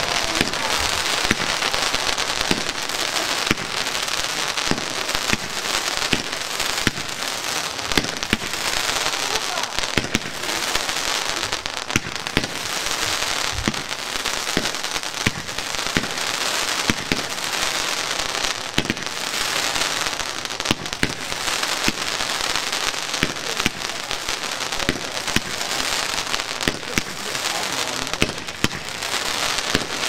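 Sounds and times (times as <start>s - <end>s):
fireworks cracks and pops: 0.0s - 30.0s
fireworks hissing: 0.0s - 30.0s.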